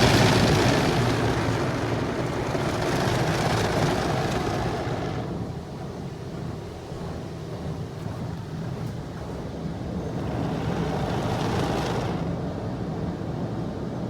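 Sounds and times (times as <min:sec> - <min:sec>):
car wash machine hum: 0:00.0 - 0:14.0.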